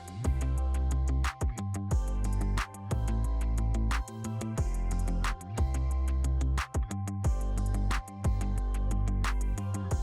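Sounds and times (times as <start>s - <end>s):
background music with steady beat: 0.0s - 10.0s
sustained bass line: 0.0s - 10.0s.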